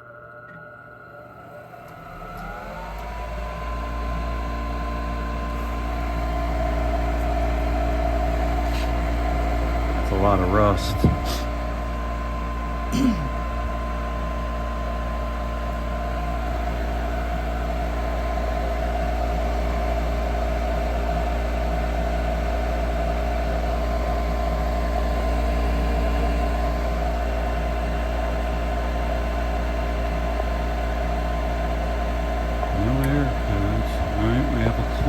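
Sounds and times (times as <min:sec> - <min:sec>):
furnace motor humming: 0:00.0 - 0:35.0.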